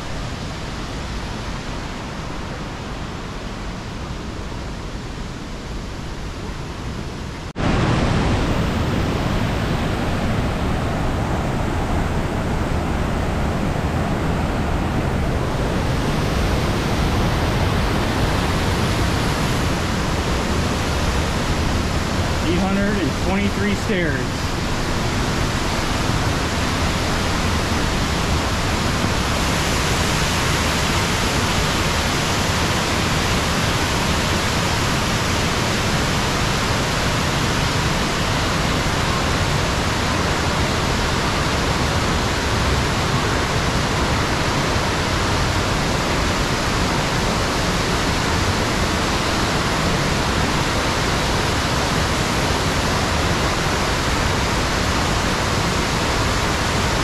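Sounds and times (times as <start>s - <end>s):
waterfall rushing: 6.5s - 57.0s.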